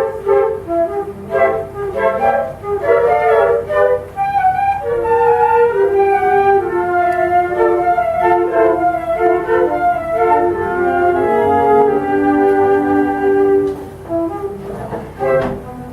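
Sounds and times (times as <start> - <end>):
flute ensemble playing: 0.0 - 15.9.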